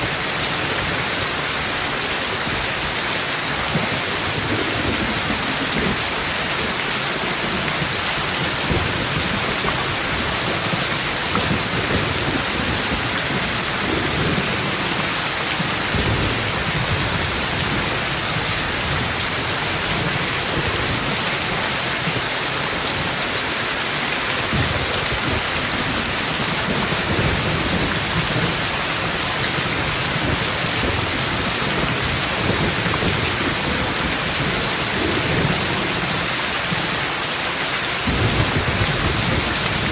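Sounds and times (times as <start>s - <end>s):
rain pouring: 0.0s - 39.9s
low thunder rumbling: 3.6s - 22.2s, 24.3s - 36.8s, 38.0s - 39.9s.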